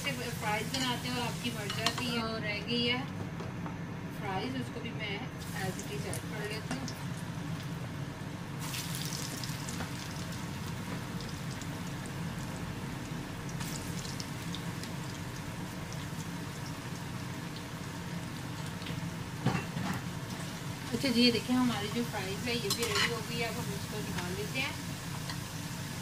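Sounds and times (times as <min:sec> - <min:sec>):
fries sizzling in hot oil: 0:00.0 - 0:02.2, 0:05.4 - 0:26.0.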